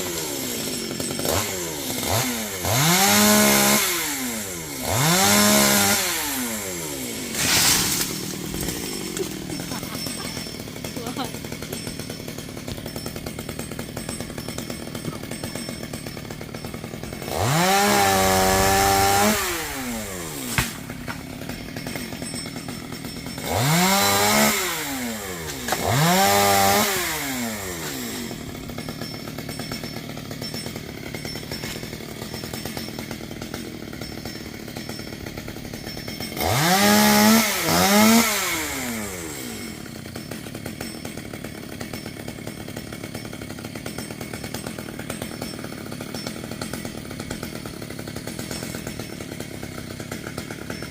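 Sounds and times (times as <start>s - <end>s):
chainsaw idling and revving: 0.0s - 50.9s.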